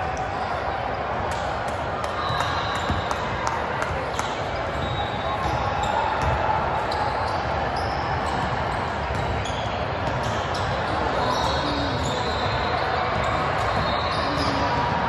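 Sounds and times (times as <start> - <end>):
background noise of crowd in hall: 0.0 - 15.0
basketball bouncing on court: 2.2 - 15.0.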